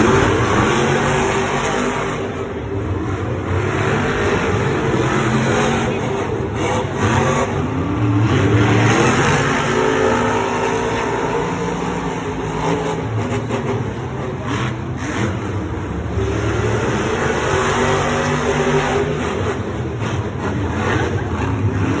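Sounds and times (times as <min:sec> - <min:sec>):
truck engines racing: 0:00.0 - 0:22.0.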